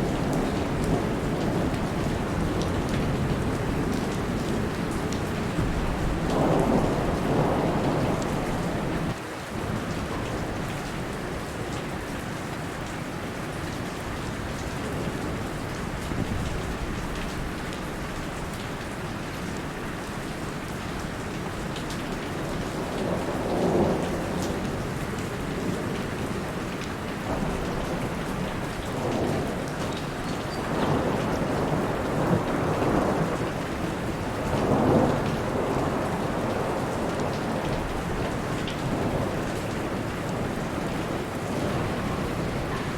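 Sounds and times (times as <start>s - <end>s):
heavy rain on a lake: 0.0s - 42.9s.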